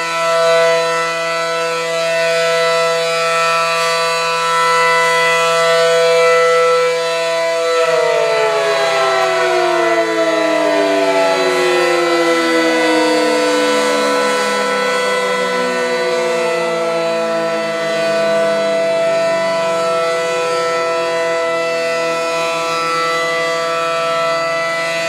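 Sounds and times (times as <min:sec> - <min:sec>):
air raid siren winding down: 0:00.0 - 0:25.0.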